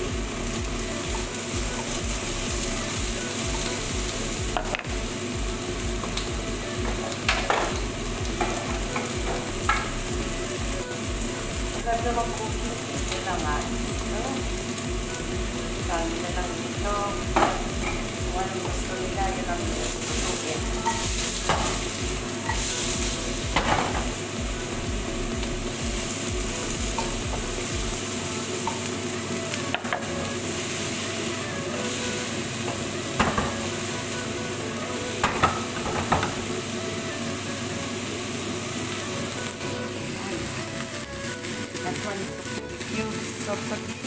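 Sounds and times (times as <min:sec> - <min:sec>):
vegetables sizzling in a pan: 0:00.0 - 0:44.0.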